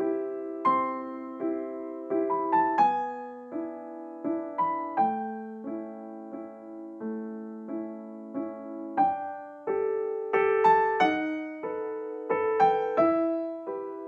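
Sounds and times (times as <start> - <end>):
slow gentle solo piano: 0.0 - 14.0.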